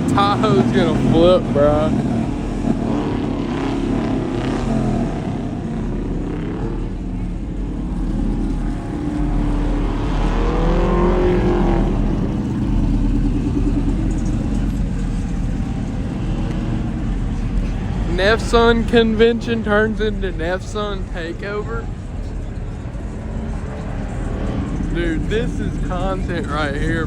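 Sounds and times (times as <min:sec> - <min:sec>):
truck engine revving: 0:00.0 - 0:27.0
truck engines running: 0:00.0 - 0:27.0.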